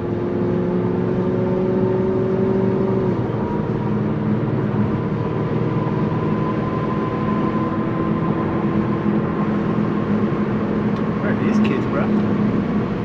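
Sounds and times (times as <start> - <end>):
car engine drone: 0.0 - 13.0
road and tyre noise: 0.0 - 13.0.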